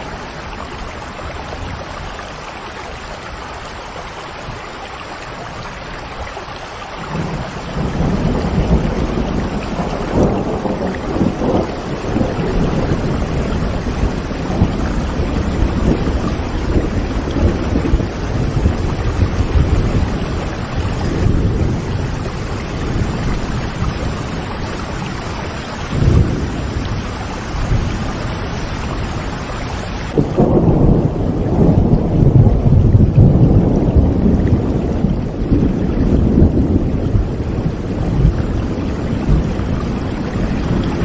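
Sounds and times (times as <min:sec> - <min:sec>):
heavy rain: 0:00.0 - 0:41.0
rolling thunder: 0:07.0 - 0:41.0.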